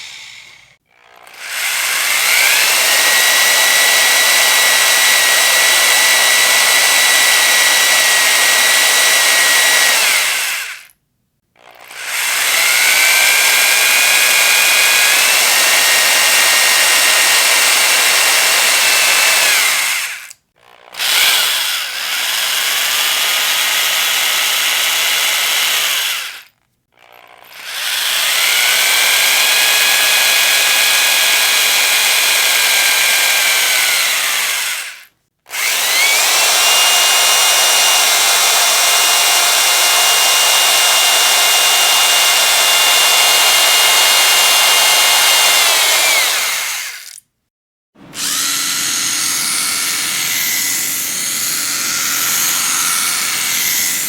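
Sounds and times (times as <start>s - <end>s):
electric drill motor whine: 0.0s - 10.9s, 11.6s - 47.2s, 48.0s - 54.0s.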